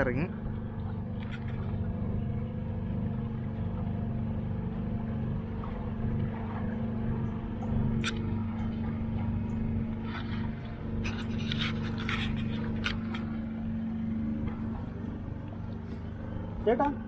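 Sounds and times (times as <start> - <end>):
motorboat engine droning: 0.0 - 17.0.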